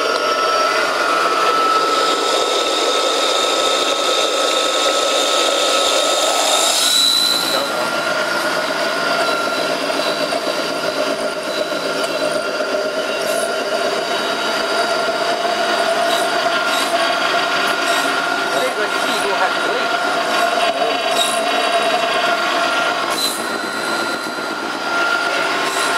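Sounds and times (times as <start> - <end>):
grinder machine whining: 0.0 - 25.9
rough grinding noise: 0.0 - 25.9.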